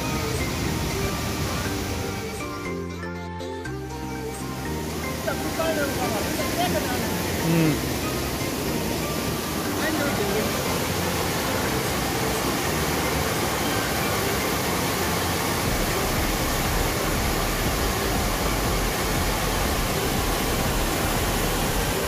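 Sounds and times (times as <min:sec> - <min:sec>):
stream rushing over rocks: 0:00.0 - 0:02.8, 0:03.8 - 0:22.0.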